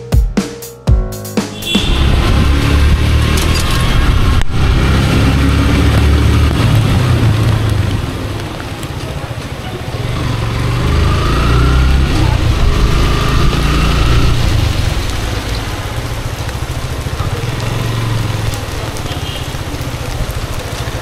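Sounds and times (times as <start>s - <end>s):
street noise: 1.2s - 21.0s
traffic engine rumble: 1.6s - 21.0s.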